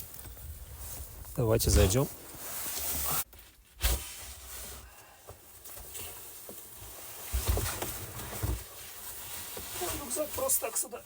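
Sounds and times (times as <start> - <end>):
clothing and backpack rustling: 0.0 - 11.0.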